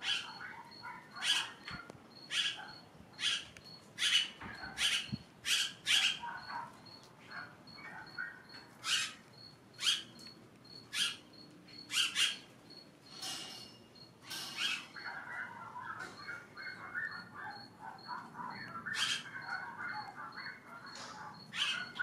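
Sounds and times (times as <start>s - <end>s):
birds chirping: 0.0s - 22.0s
faint high peeping: 0.0s - 22.0s.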